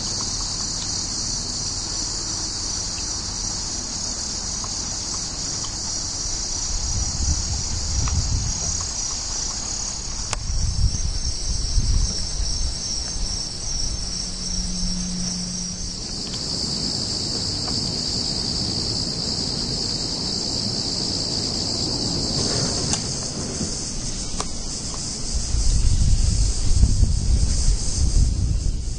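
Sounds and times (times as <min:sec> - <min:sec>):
insect chorus trilling: 0:00.0 - 0:28.9.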